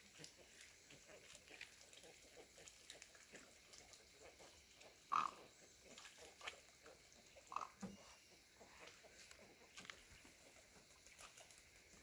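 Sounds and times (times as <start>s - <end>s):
wading birds calling: 0.0s - 12.0s.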